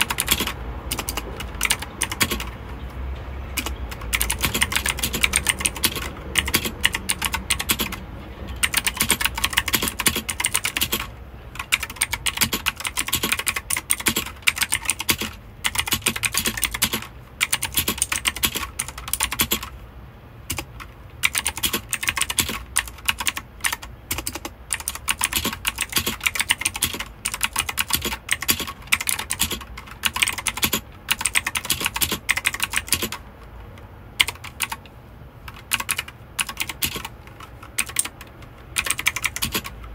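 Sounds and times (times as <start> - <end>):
mechanical keyboard typing: 0.0 - 19.8, 20.5 - 39.9.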